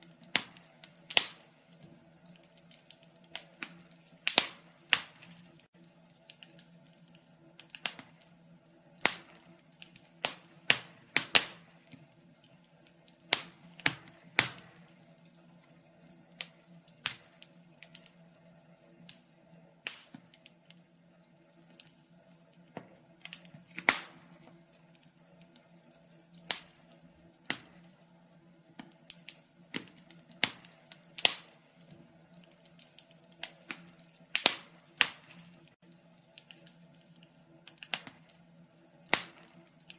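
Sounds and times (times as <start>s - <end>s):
faint steady hum: 0.0s - 39.9s
fireplace crackling: 0.0s - 39.9s.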